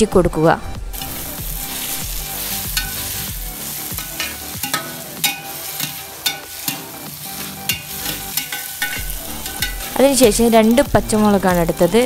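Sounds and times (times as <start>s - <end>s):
onions sizzling in oil: 0.9s - 12.0s
metal spatula scraping pan: 1.0s - 12.0s.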